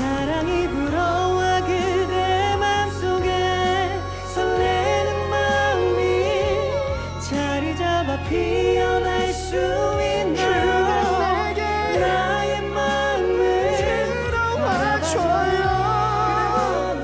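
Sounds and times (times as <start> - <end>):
bass line: 0.0 - 17.0
person singing: 0.0 - 17.0.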